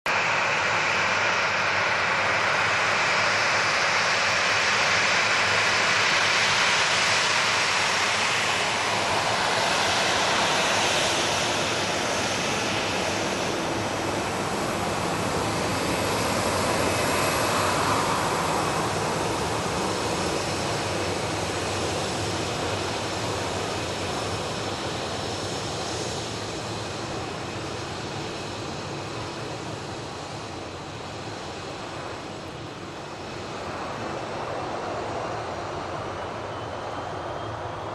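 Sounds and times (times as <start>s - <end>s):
jet engines whining: 0.1s - 37.9s.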